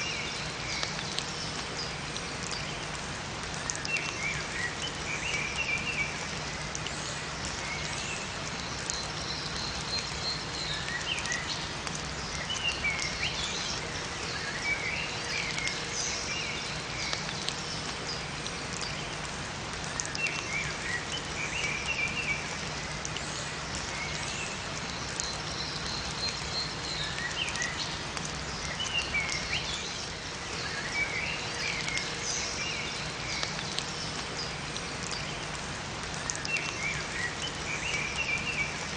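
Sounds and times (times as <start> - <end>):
light rain falling: 0.0 - 38.9
songbirds chirping: 0.0 - 38.9.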